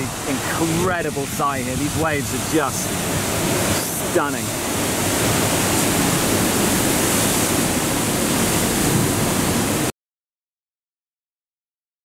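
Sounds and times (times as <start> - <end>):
heavy surf pounding rocks: 0.0 - 9.9.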